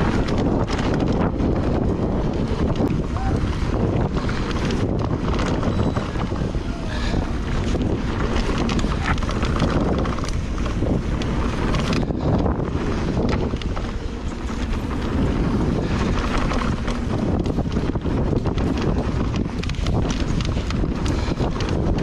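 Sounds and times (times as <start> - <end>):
mountain bike rattling on dirt trail: 0.0 - 22.0
wind on microphone: 0.0 - 22.0.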